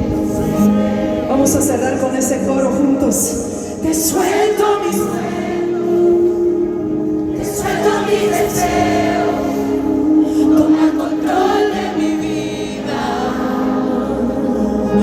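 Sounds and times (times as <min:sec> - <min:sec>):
choir singing: 0:00.0 - 0:02.0, 0:03.8 - 0:15.0.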